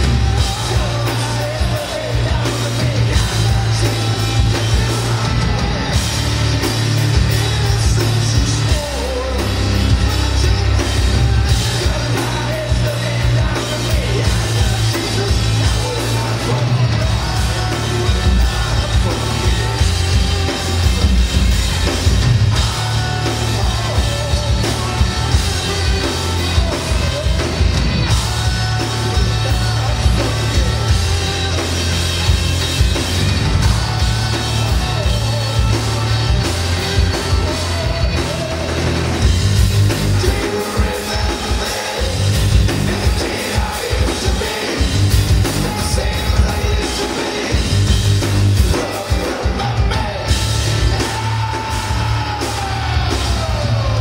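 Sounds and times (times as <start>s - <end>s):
person singing and yelling: 0.0s - 54.0s
rock band with cellos and drums: 0.0s - 54.0s.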